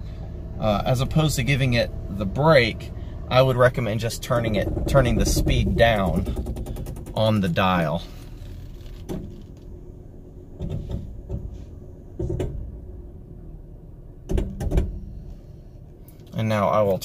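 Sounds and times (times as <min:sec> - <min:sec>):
brake actuator clunks and buzzes: 0:00.0 - 0:17.0
engine running low: 0:00.0 - 0:17.0.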